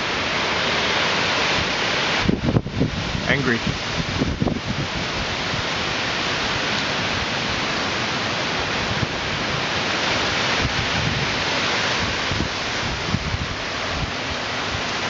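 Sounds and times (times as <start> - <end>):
heavy rain: 0.0 - 15.0
wind gusts buffeting: 0.0 - 15.0.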